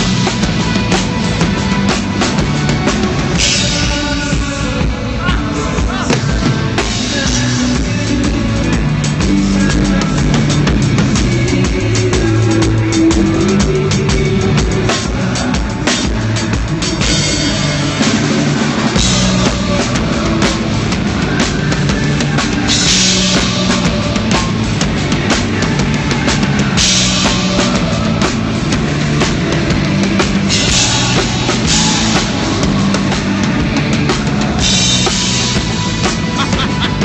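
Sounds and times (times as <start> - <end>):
bass drum: 0.0 - 37.0
rock band playing live: 0.0 - 37.0.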